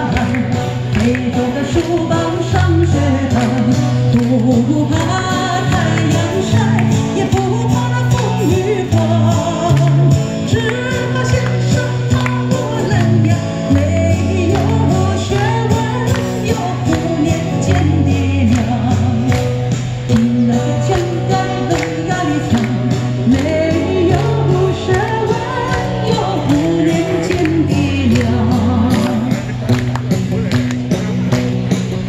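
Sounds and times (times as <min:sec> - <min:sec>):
audience clapping along: 0:00.0 - 0:08.3, 0:08.9 - 0:32.0
person singing: 0:00.0 - 0:29.8
live band music: 0:00.0 - 0:32.0.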